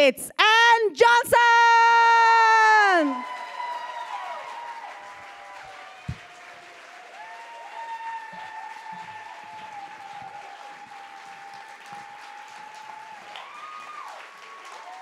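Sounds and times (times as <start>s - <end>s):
audience applauding: 2.9s - 15.0s.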